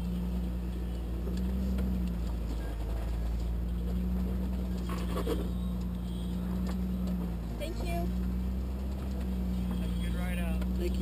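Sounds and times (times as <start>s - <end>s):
vehicle engine running at low revs: 0.0s - 11.0s.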